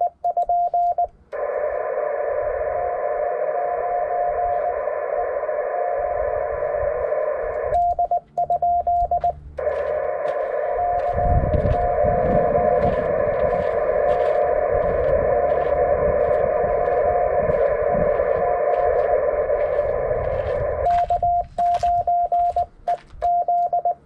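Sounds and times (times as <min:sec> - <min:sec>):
morse code tones: 0:00.0 - 0:24.0
radio receiver hiss: 0:00.8 - 0:23.6
low rumble: 0:00.8 - 0:24.0.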